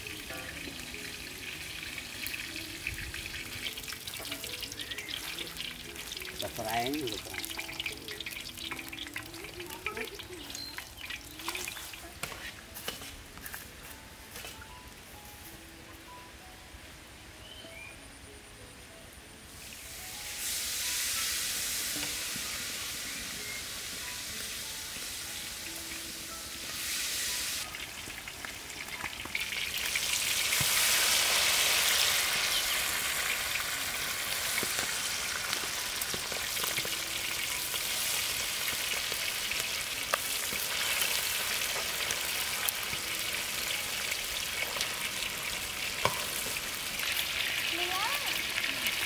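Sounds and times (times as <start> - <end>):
oil sizzling in wok: 0.0 - 15.5, 19.5 - 49.0.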